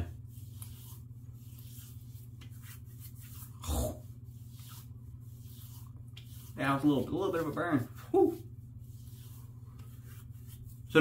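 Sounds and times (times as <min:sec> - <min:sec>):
low steady hum: 0:00.0 - 0:11.0
skin rubbing: 0:00.0 - 0:11.0
soft pats on skin: 0:00.2 - 0:03.6, 0:04.2 - 0:11.0.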